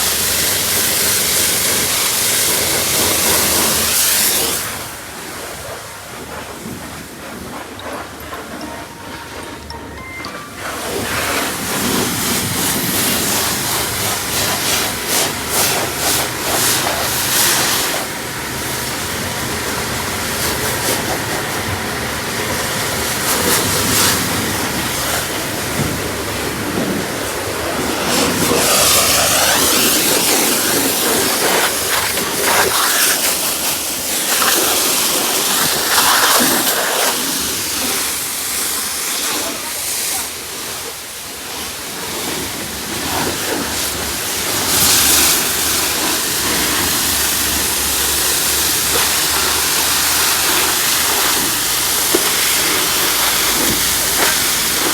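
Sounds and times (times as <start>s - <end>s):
high-pressure water spray hissing: 0.0s - 9.6s, 10.6s - 54.9s.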